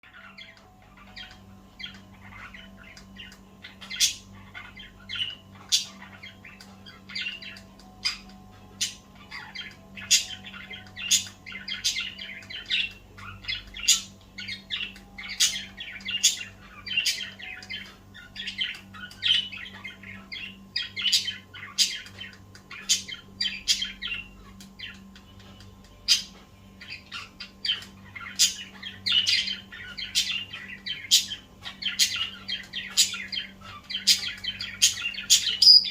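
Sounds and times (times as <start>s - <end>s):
faint low hum: 0.0s - 35.9s
budgerigar chirping and chattering: 0.1s - 35.9s.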